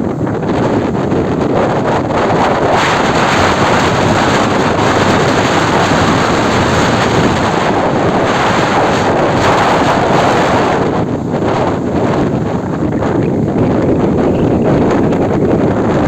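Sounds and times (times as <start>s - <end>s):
rough surf: 0.0s - 16.0s
wind buffeting microphone: 0.0s - 16.0s.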